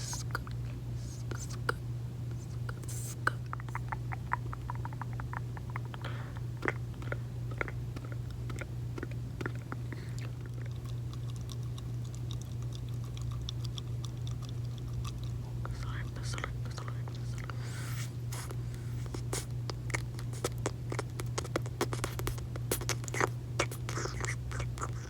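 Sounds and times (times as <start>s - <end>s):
wet mouth clicks: 0.0s - 1.8s, 2.4s - 25.0s
gum chewing: 0.0s - 25.0s.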